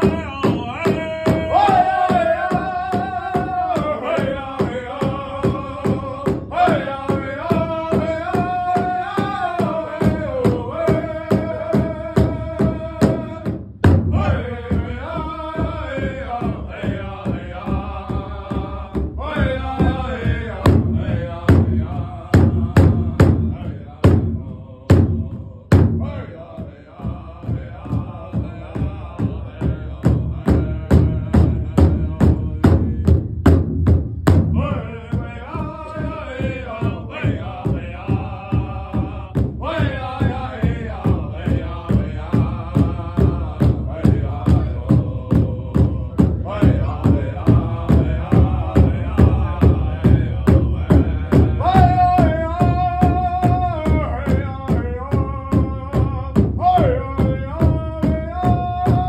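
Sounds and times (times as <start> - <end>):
high voices singing: 0.0 - 33.2, 34.3 - 59.0
group singing: 0.0 - 33.6, 34.3 - 59.0
large drum beating: 0.0 - 59.0.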